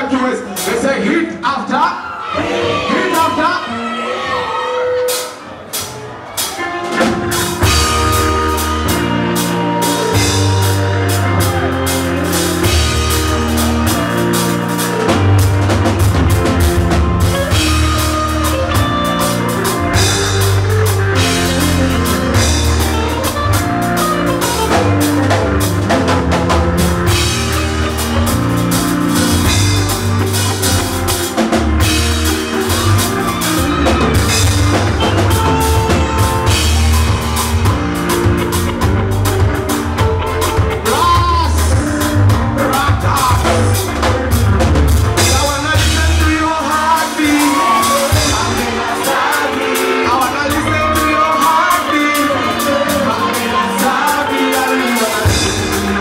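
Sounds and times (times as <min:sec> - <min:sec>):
drum kit steady beat: 0:00.0 - 0:01.3, 0:05.0 - 0:56.0
live band playing loud music: 0:00.0 - 0:56.0.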